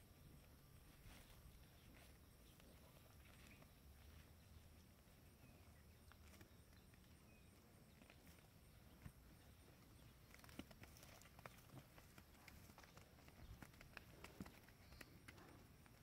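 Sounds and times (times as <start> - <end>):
cows tearing and chewing grass: 0.9 - 16.0.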